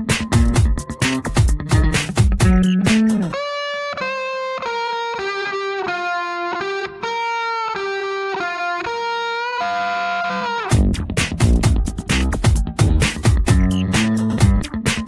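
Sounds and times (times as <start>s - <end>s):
slow electric guitar melody: 0.0s - 15.0s.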